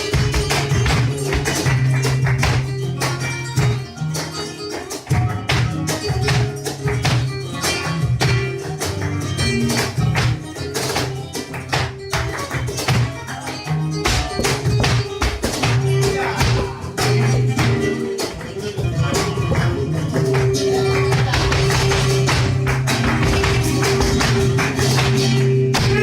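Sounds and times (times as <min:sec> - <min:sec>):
dancer's footwork taps: 0:00.0 - 0:18.5, 0:21.1 - 0:26.0
flamenco guitar playing: 0:00.0 - 0:26.0.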